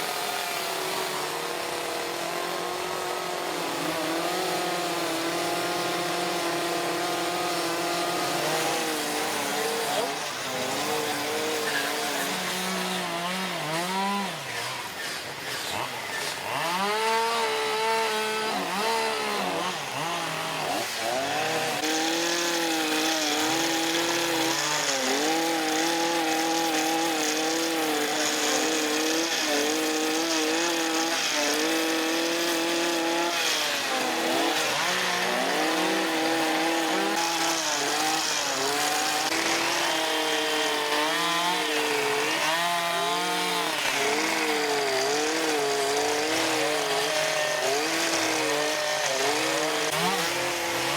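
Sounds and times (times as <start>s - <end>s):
chainsaws carving wood: 0.0s - 50.9s.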